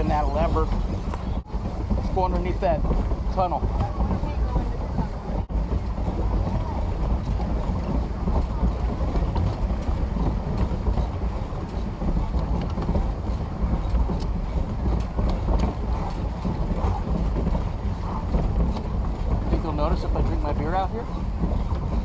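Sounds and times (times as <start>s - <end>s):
paddle wheel clatter and churn: 0.0s - 22.0s.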